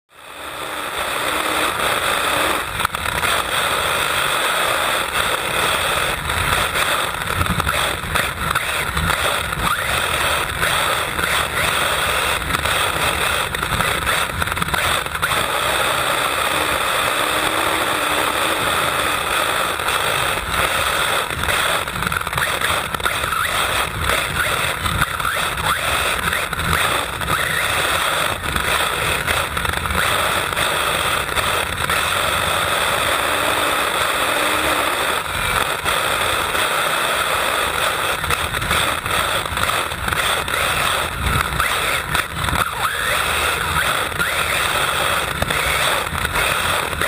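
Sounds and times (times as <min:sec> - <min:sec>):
electric rc car driving: 0:00.1 - 0:47.0.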